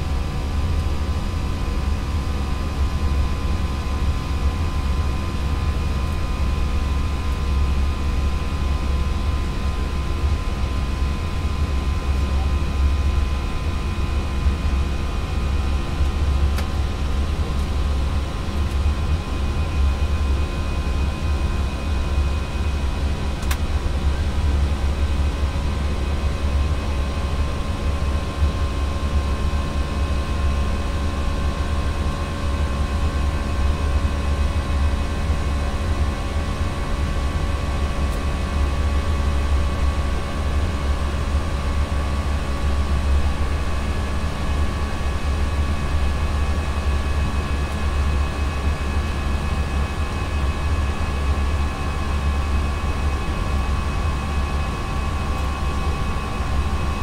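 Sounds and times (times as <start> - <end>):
airflow and engines rumbling: 0.0 - 57.0.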